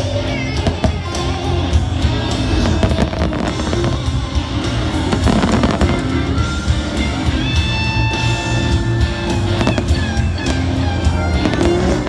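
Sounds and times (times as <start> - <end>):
loud music playing: 0.0 - 12.0
fireworks popping and crackling: 0.5 - 6.7, 8.4 - 12.0.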